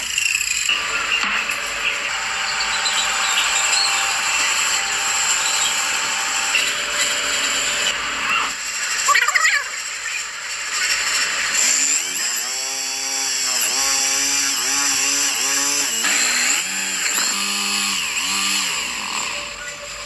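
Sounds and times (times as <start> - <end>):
electric drill boring into wood: 0.0 - 20.0.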